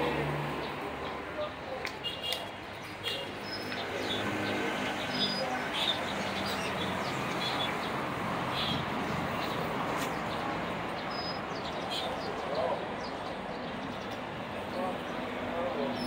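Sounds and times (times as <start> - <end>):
traffic: 0.0 - 16.0
birds chirping: 0.5 - 16.0.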